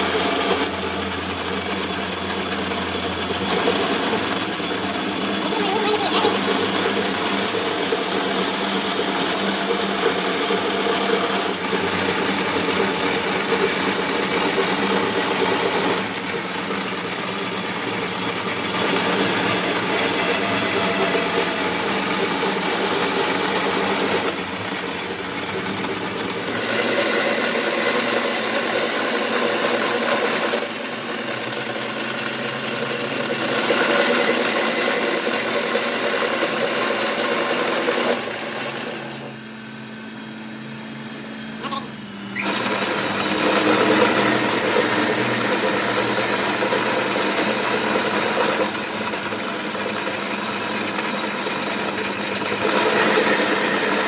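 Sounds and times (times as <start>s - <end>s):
lathe motor hum: 0.0s - 54.0s
lathe tool cutting metal: 0.0s - 54.0s.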